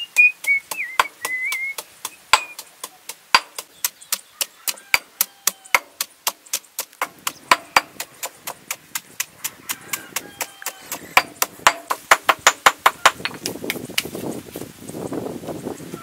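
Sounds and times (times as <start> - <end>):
pestle grinding against stone: 0.0 - 14.1
pestle pounding in stone mortar: 0.0 - 14.1.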